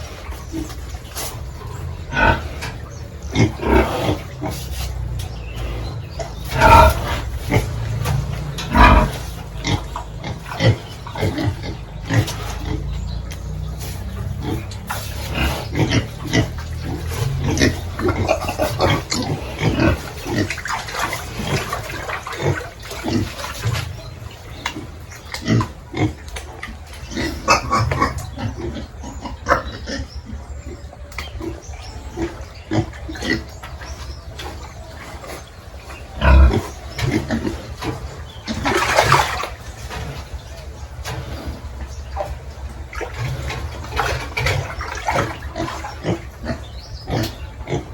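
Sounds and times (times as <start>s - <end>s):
pigs grunting: 0.0s - 47.9s.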